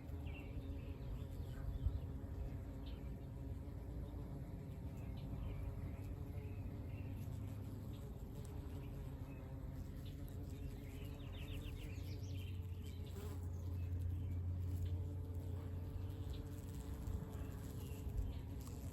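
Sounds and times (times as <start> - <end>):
honeybees buzzing: 0.0 - 18.9.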